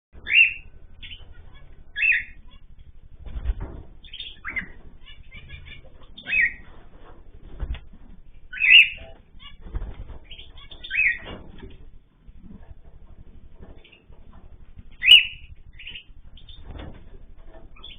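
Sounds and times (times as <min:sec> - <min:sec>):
cage birds calling: 0:00.2 - 0:17.9
low thumps: 0:00.6 - 0:17.9.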